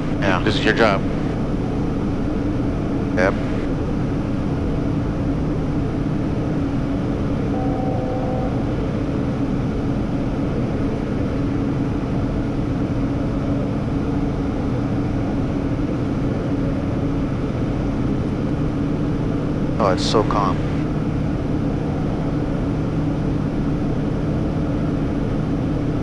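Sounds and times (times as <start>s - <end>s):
constant low hum: 0.0s - 26.0s
jet cockpit air and engine noise: 0.0s - 26.0s.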